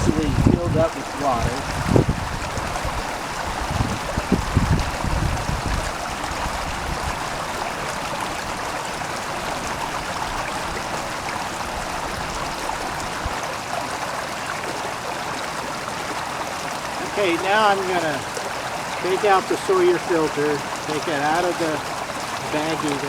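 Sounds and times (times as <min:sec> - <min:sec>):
flowing water: 0:00.0 - 0:23.0.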